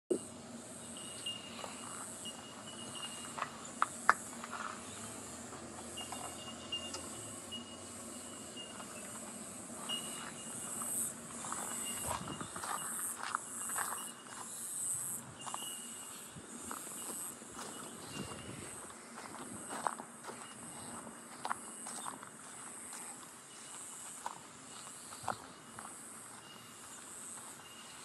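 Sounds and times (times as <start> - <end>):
insects chirring: 0.1 - 28.0
thin steady tone: 0.1 - 28.0.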